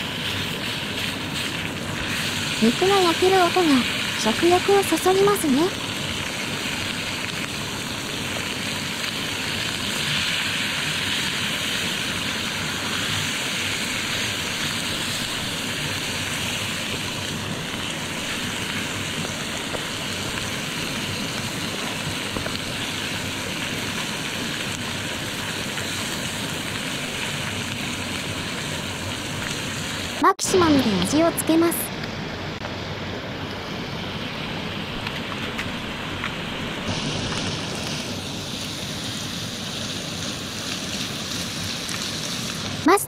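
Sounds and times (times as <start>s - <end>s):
beef sizzling in a skillet: 0.0s - 31.5s, 34.9s - 43.0s.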